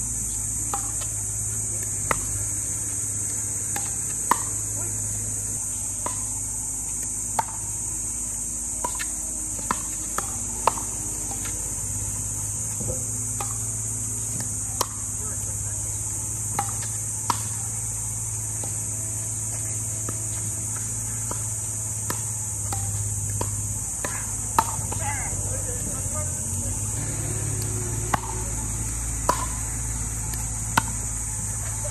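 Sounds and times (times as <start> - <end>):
high-pitched insect buzz: 0.0 - 31.9.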